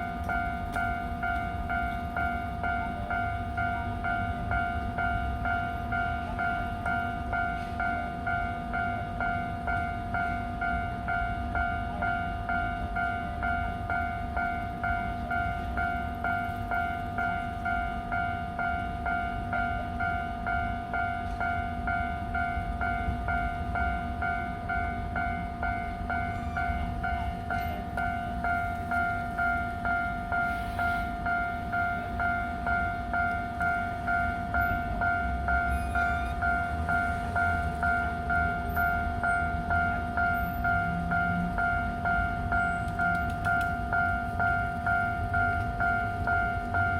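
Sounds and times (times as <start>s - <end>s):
level-crossing warning bell: 0.0s - 46.9s.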